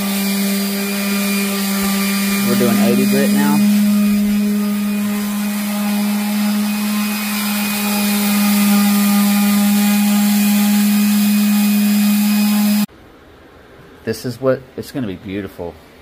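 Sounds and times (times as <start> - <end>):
orbital sander motor hum: 0.0 - 12.9
sandpaper rasping on wood: 0.0 - 12.9.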